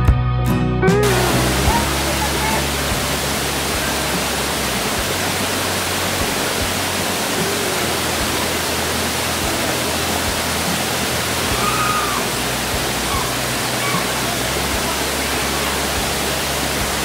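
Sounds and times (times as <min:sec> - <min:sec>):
faint background music: 0:00.8 - 0:17.0
waterfall rushing: 0:01.0 - 0:17.0.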